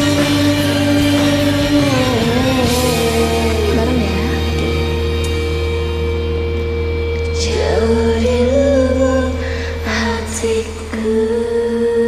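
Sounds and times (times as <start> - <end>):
slow pop ballad backing track: 0.0 - 12.0.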